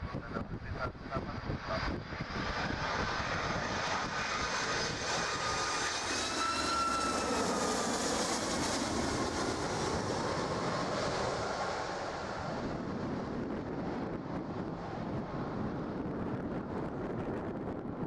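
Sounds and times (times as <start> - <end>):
high engine whine: 0.0 - 18.0
jet engine roar: 0.0 - 18.0
wind buffeting microphone: 0.0 - 18.0.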